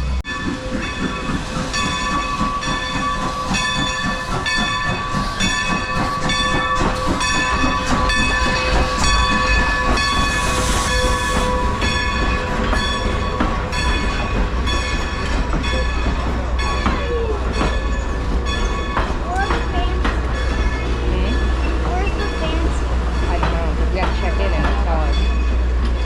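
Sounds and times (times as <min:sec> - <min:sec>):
locomotive rumble: 0:00.0 - 0:26.0.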